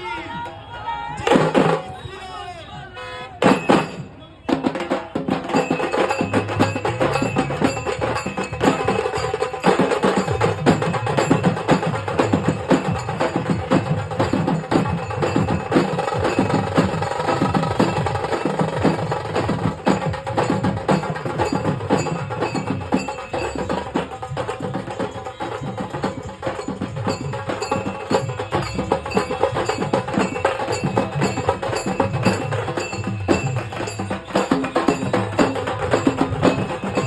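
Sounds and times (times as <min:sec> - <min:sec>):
fast drum strokes: 0:03.4 - 0:37.0.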